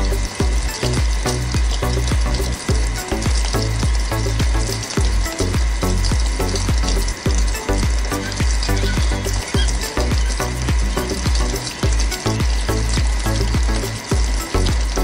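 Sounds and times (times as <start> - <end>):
background music with pulsing bass: 0.0 - 15.0
water stream splashing into pond: 0.0 - 15.0.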